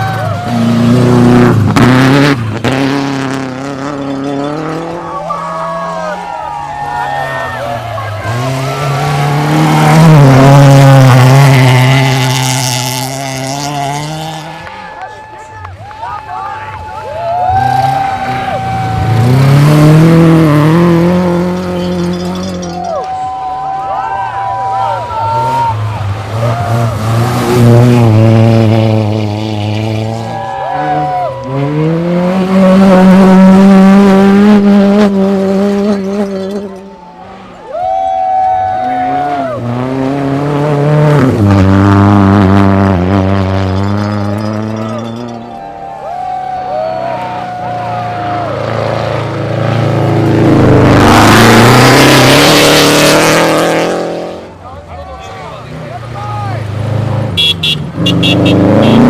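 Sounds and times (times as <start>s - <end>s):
rally car engine passing: 0.0s - 59.0s.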